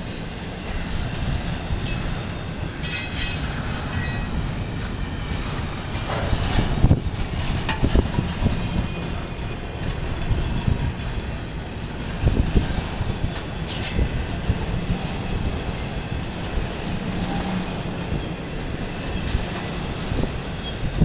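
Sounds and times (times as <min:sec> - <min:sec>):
freight train cars rumbling: 0:00.0 - 0:21.0
wheels clacking over rail joints: 0:00.6 - 0:21.0.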